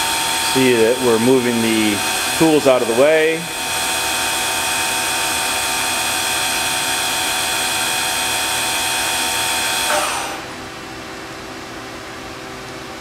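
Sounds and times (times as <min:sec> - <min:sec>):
lathe high whine: 0:00.0 - 0:10.8
machine hum: 0:00.0 - 0:12.2.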